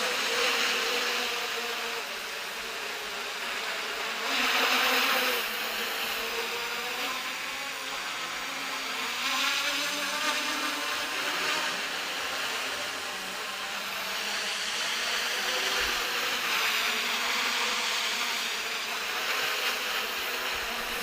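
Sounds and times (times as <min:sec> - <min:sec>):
propellers buzzing: 0:00.0 - 0:21.0.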